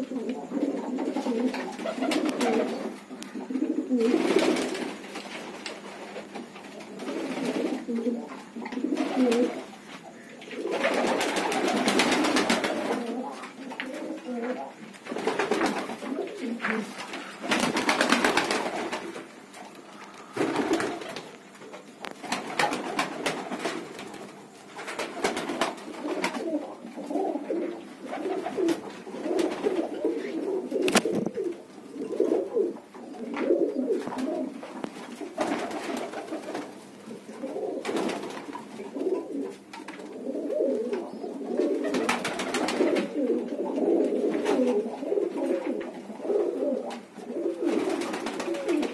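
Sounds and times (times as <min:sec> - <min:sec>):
pigeons cooing: 0:00.0 - 0:48.9
rustles: 0:00.1 - 0:48.9.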